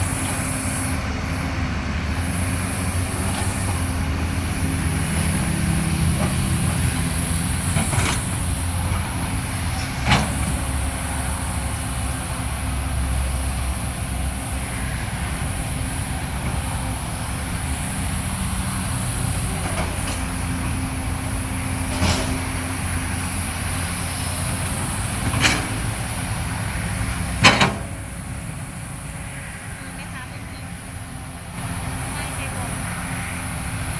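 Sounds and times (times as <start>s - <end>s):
excavator diesel engine under load: 0.0s - 33.9s.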